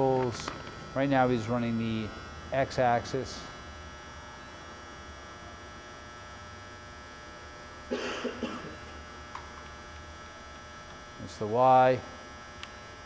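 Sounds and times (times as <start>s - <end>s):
milling machine hum and whine: 0.0s - 13.0s.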